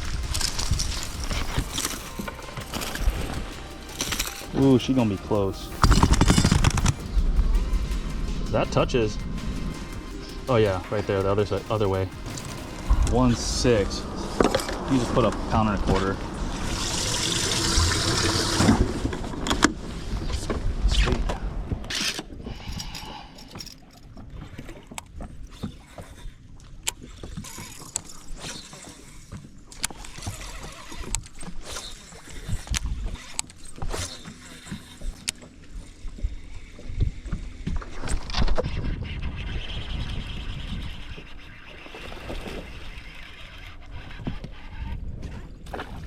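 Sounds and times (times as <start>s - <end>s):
water and wind against hull: 0.0s - 46.0s.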